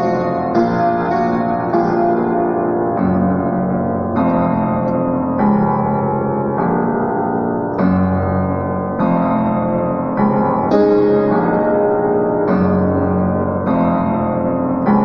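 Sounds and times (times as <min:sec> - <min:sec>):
solo piano piece: 0:00.0 - 0:15.0.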